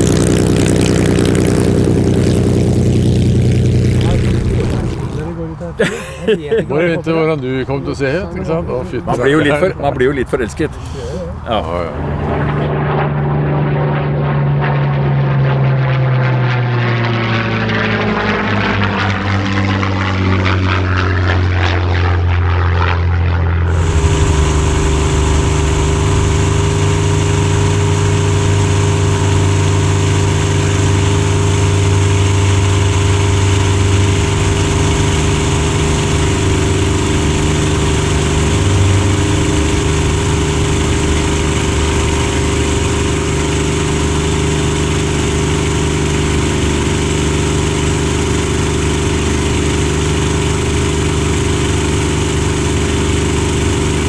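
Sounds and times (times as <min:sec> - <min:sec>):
aircraft engine drone: 0:00.0 - 0:54.0
propeller aircraft engine passing: 0:00.0 - 0:54.0.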